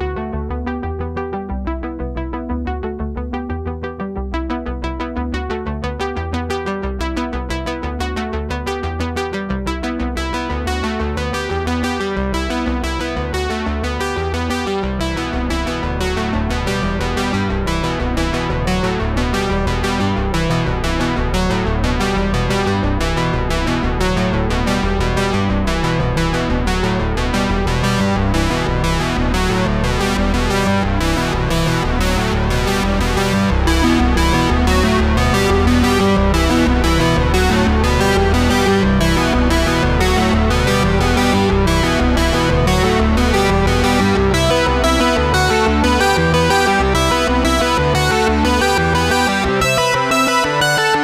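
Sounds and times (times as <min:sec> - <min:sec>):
synthesizer tune with steady beat: 0:00.0 - 0:51.0.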